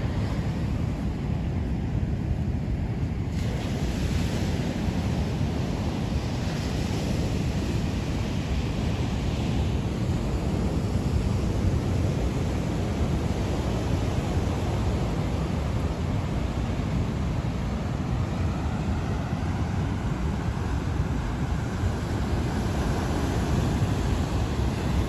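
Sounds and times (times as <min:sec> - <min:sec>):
wind buffeting microphone: 0:00.0 - 0:25.0
surf breaking on beach: 0:03.2 - 0:25.0.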